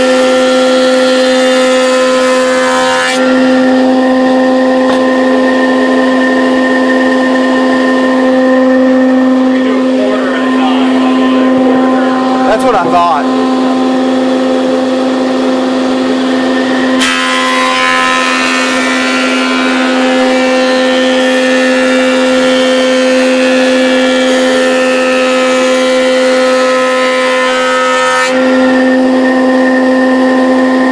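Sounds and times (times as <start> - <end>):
planer cutting board: 0.0 - 30.9
planer motor hum: 0.0 - 30.9.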